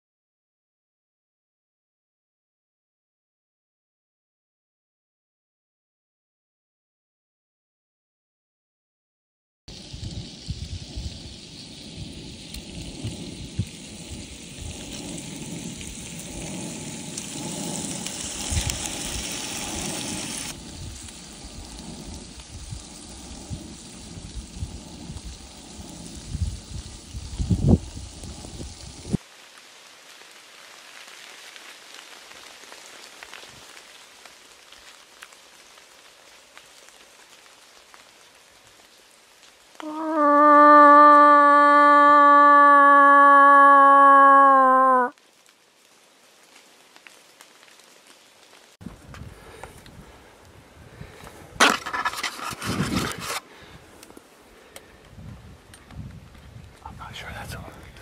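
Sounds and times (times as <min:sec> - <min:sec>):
rain pattering on leaves: 0:09.7 - 0:58.0.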